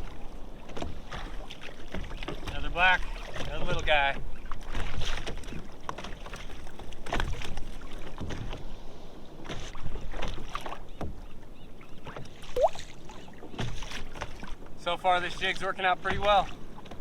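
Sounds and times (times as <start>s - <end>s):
water splashing against a kayak: 0.0s - 17.0s.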